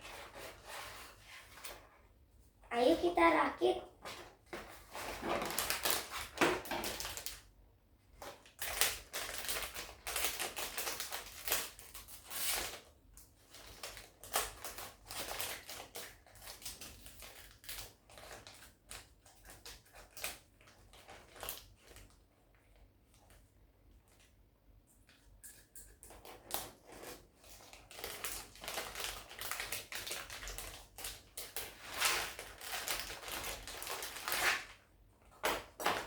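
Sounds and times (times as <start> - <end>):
plastic crinkling and rustling: 4.0 - 7.5, 8.1 - 24.4, 25.1 - 36.0.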